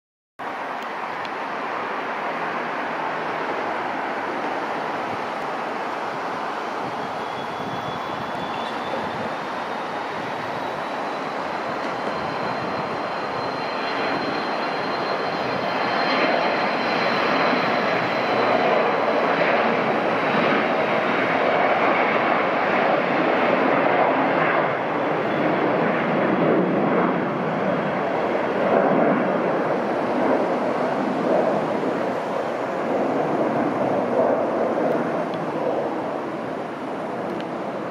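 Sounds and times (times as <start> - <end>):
high jet whine: 0.4 - 37.9
jet engines roaring at takeoff: 0.4 - 37.9.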